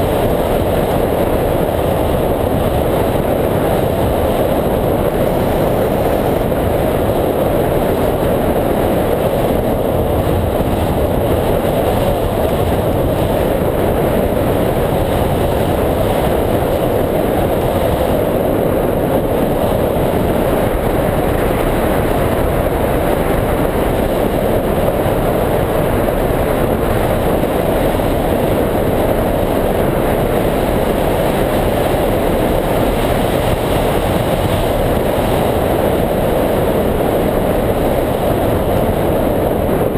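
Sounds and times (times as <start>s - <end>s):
wind noise over microphone: 0.0s - 39.9s.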